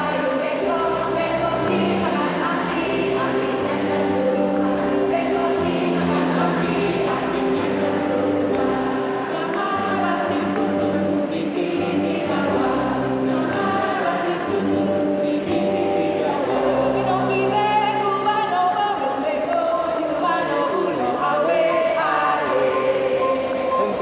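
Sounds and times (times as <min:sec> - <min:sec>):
mixed choir singing: 0:00.0 - 0:24.0.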